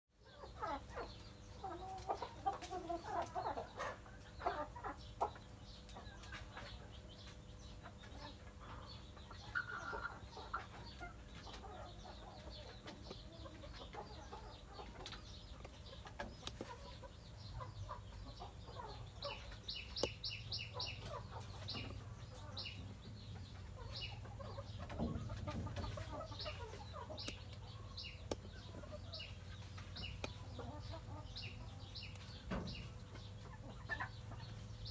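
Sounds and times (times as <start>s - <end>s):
chickens clucking: 0.2s - 34.9s.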